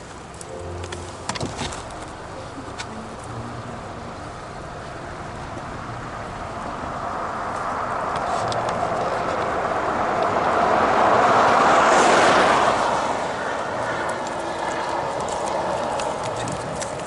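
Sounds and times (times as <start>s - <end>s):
vehicle passing on road: 0.0s - 17.0s.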